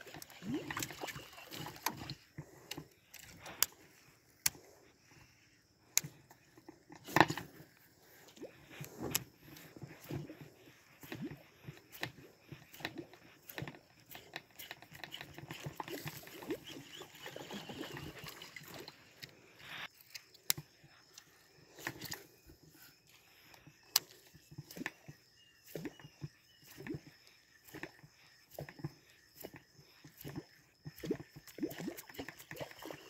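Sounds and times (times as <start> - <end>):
fishing reel whirring: 0.0 - 4.7, 6.0 - 20.1, 21.8 - 33.0.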